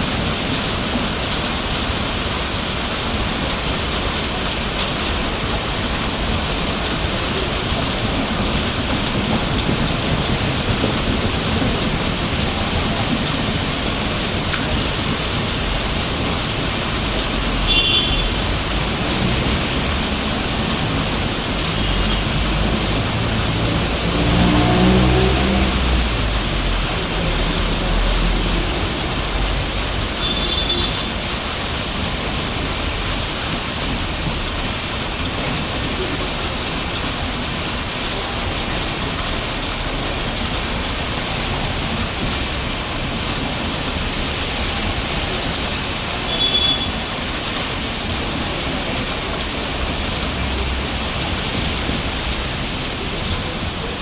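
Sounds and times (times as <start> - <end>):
express train passing: 0.0 - 54.0
heavy rain hissing: 0.0 - 54.0.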